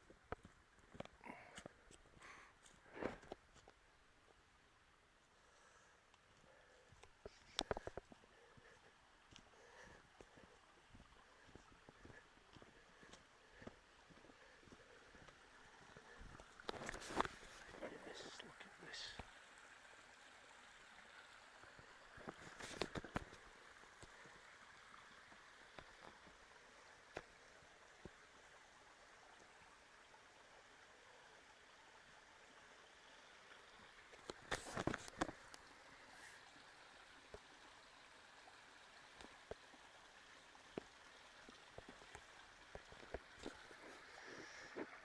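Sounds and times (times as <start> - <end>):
faint outdoor hiss: 0.0 - 45.0.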